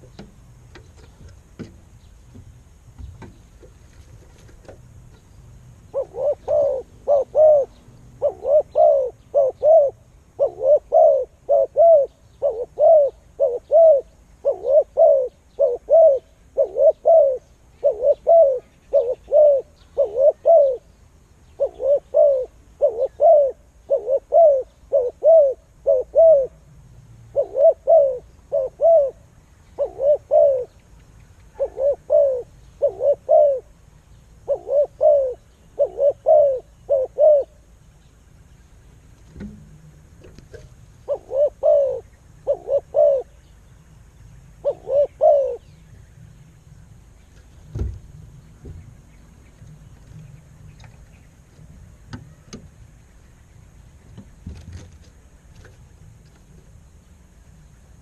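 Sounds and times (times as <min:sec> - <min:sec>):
bird calling: 0:05.9 - 0:26.6, 0:27.3 - 0:39.0, 0:40.2 - 0:54.6.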